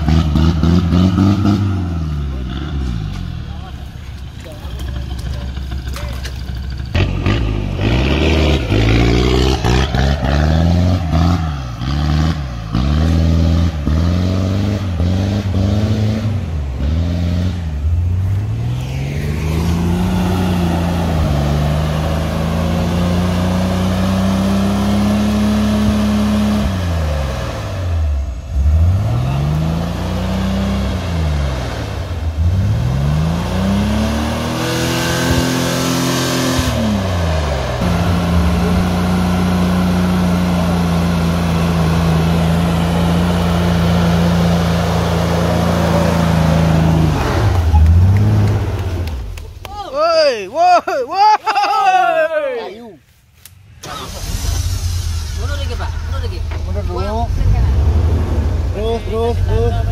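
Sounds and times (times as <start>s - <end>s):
off-road vehicle engine revving: 0.0s - 49.7s, 53.8s - 59.9s.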